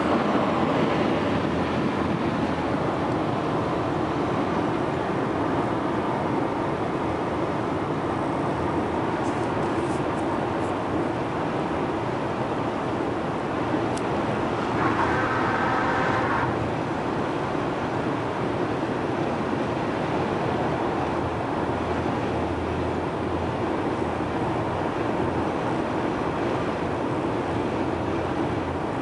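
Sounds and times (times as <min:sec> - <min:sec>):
car road and engine noise: 0:00.0 - 0:29.0.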